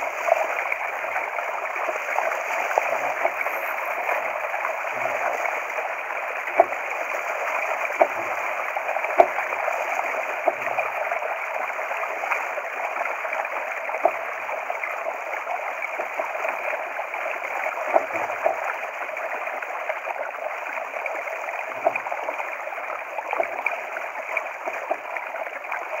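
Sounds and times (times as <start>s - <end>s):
water rushing along a boat hull: 0.0s - 26.0s.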